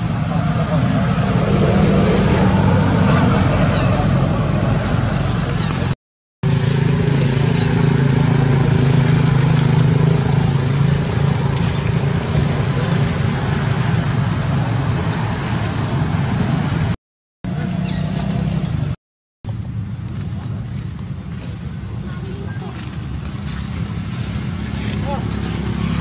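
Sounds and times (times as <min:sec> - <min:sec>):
engine hum with hiss: 0:00.0 - 0:26.0.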